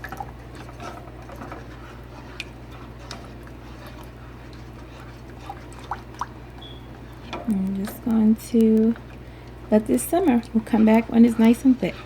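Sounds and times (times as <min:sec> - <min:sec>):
steady low hum: 0:00.0 - 0:12.0
thick sauce being stirred: 0:00.0 - 0:12.0.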